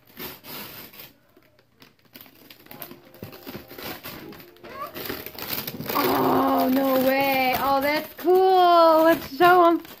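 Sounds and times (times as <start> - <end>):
plastic gift bag rustling: 0.0 - 10.0.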